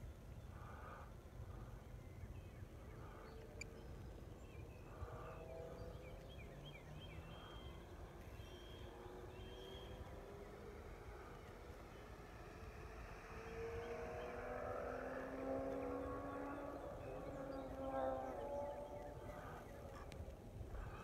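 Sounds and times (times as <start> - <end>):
birds chirping: 0.0 - 21.0
distant model plane motor hum: 3.0 - 21.0.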